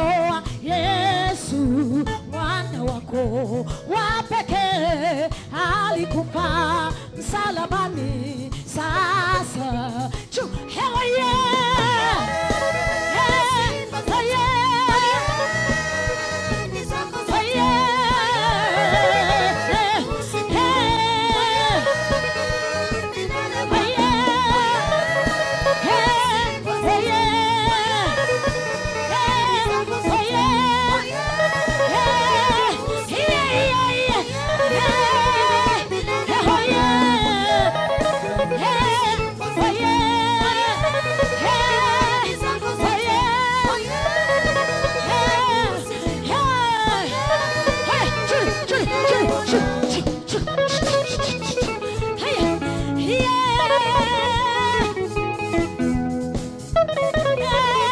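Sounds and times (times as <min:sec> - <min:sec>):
gospel worship band playing: 0:00.0 - 0:57.9.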